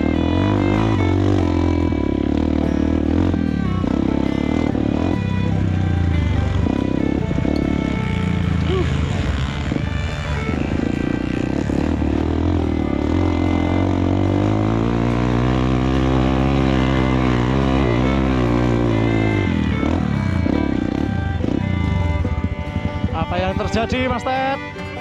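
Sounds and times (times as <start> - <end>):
background music: 0.0 - 25.0
motorcycle engine revving: 0.0 - 25.0.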